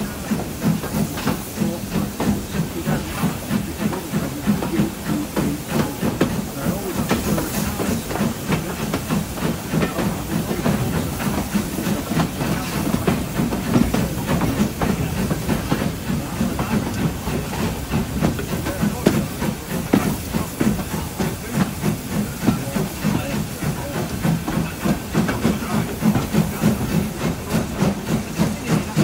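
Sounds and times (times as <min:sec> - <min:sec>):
hissing steam: 0:00.0 - 0:29.0
steam locomotive exhaust chuffs: 0:00.0 - 0:29.0.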